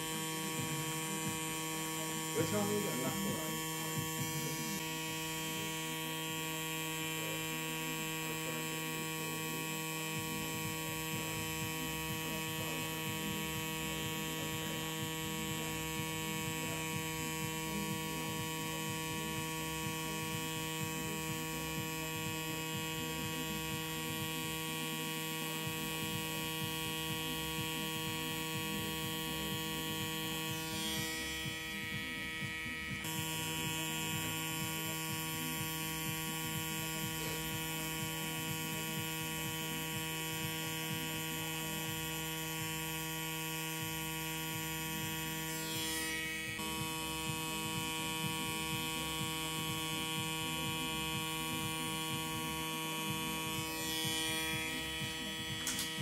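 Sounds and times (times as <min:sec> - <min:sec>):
tattoo machine humming: 0:00.0 - 0:56.0.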